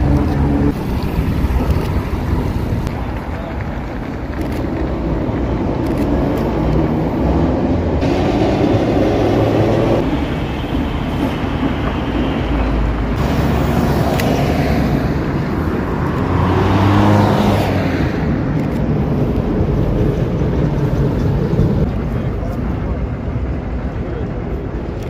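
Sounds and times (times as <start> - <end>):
cars passing: 0.0 - 25.0
trams running on tracks: 0.0 - 25.0.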